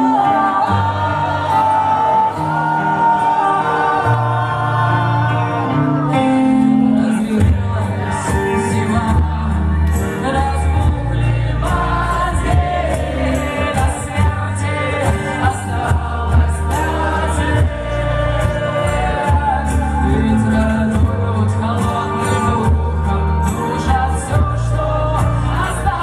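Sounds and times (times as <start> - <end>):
live band with singing: 0.0 - 26.0.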